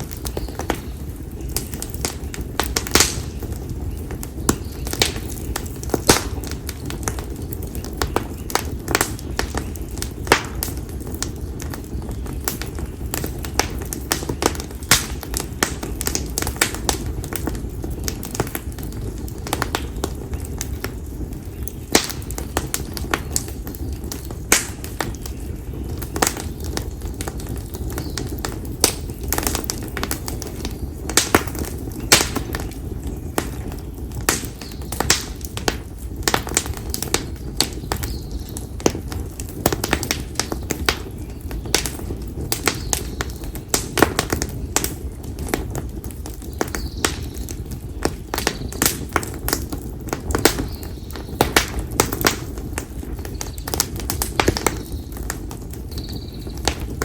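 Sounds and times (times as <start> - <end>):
bonfire crackling and popping: 0.0 - 57.0
low hiss of flames: 0.0 - 57.0.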